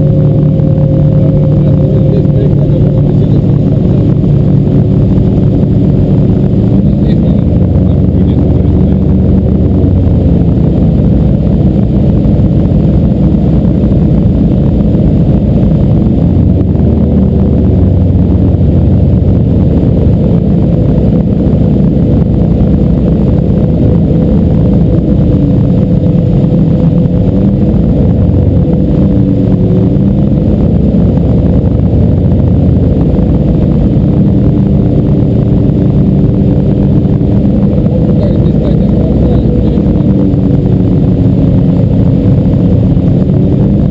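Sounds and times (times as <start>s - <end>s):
motorboat engine running: 0.0s - 43.9s.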